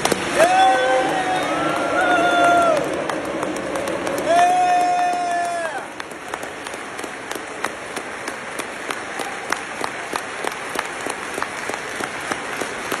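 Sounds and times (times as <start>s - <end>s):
audience applauding: 0.0s - 13.0s
sharp close claps: 0.0s - 13.0s.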